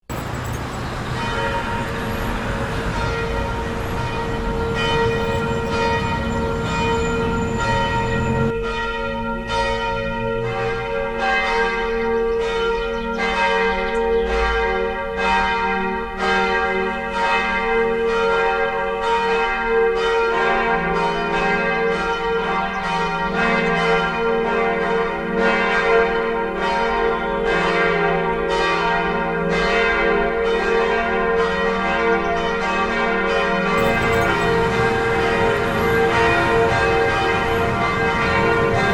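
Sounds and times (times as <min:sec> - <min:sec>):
church bells ringing: 0:00.1 - 0:38.9.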